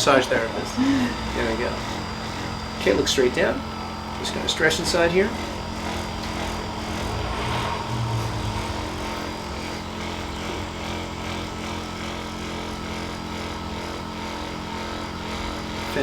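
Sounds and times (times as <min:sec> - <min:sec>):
massager motor humming: 0:00.0 - 0:16.0.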